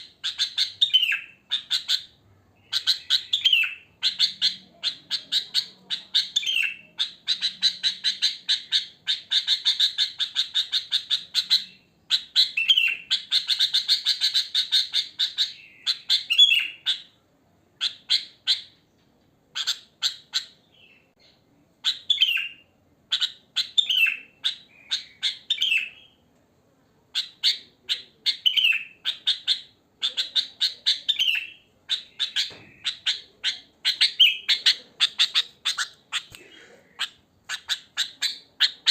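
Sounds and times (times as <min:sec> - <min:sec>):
bulbul chirping and whistling: 0:00.0 - 0:17.1, 0:21.8 - 0:26.2, 0:27.2 - 0:36.4, 0:37.0 - 0:38.9.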